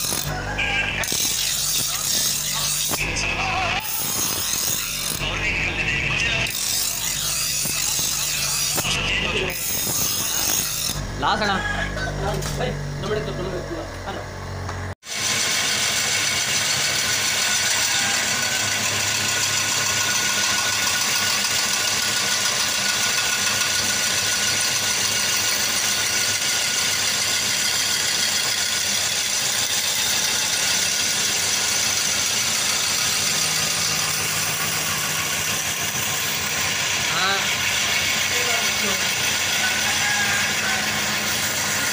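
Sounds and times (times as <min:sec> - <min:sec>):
grinding wheel on steel blade: 0:00.0 - 0:41.9.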